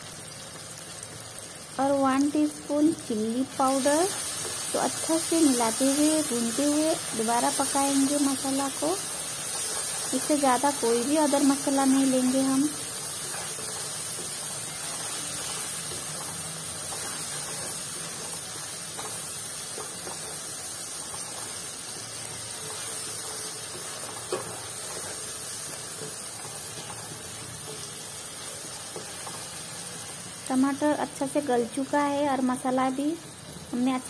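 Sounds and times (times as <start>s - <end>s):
masala sizzling in oil: 0.0s - 34.0s.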